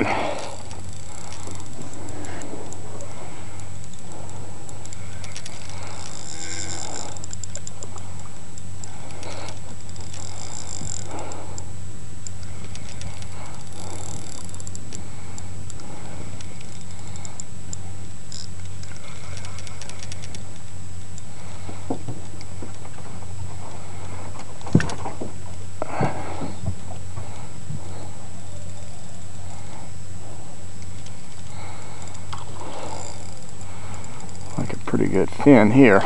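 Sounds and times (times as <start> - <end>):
boat motor running: 0.0 - 36.0.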